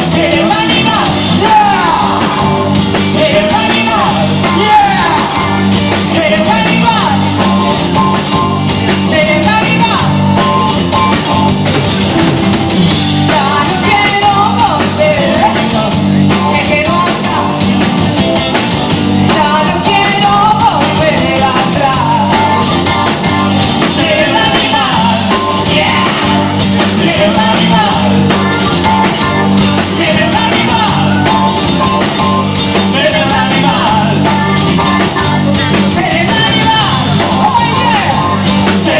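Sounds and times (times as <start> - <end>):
woman singing: 0.0 - 7.8, 8.9 - 10.8, 13.2 - 17.8, 19.2 - 38.9
rock band playing: 0.0 - 38.9.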